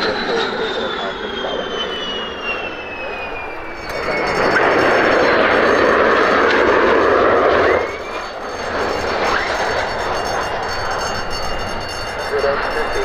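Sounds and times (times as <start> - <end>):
fighter jet landing roar: 0.0 - 13.0
jet noise with rising whines: 0.0 - 13.0.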